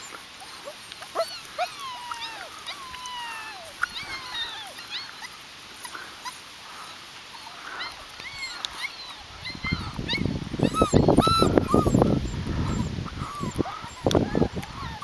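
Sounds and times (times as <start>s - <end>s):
puppies whimpering and yipping: 0.0s - 15.0s.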